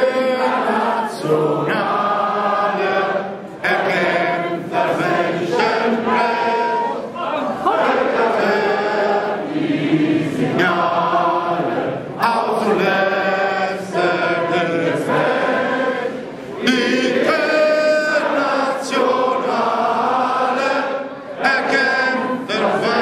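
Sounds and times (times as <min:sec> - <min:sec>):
crowd singing in unison: 0:00.0 - 0:23.0.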